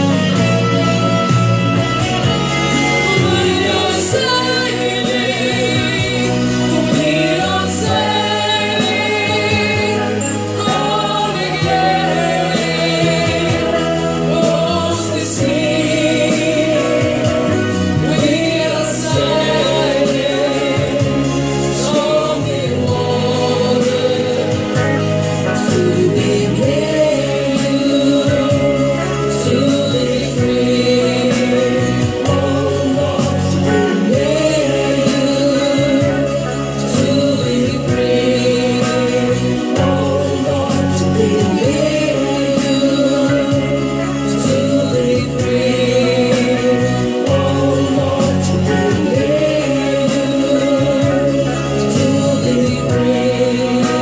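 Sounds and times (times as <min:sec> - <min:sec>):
sustained chordal backing: 0:00.0 - 0:54.0
choir singing: 0:01.2 - 0:54.0.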